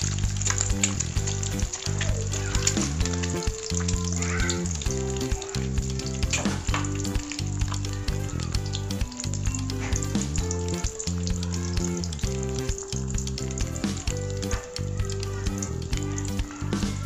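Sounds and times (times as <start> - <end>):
background music: 0.0 - 17.0
egg sizzling in hot oil: 0.0 - 17.0.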